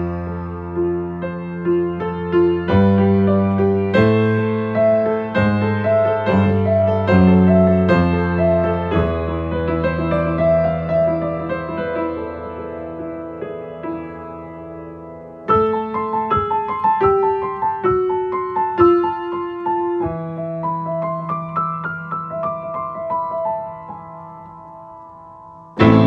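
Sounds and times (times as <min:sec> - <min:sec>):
solo grand piano: 0:00.0 - 0:26.0.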